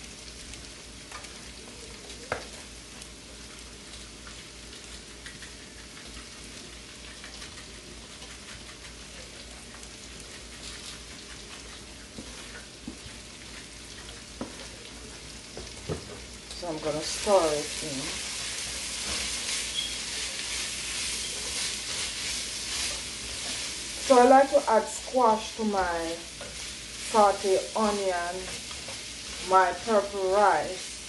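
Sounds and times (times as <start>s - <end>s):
vegetables sizzling in a pot: 0.0s - 31.0s.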